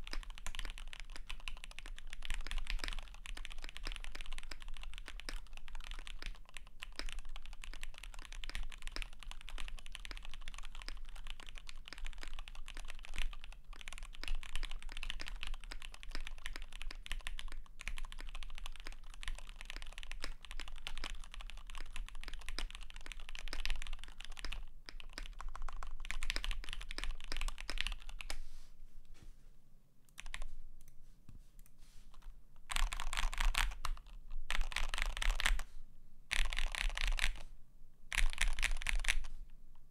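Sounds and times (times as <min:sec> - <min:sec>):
fast mechanical keyboard typing: 0:00.0 - 0:28.3, 0:32.7 - 0:35.6, 0:36.3 - 0:37.4, 0:38.1 - 0:39.3.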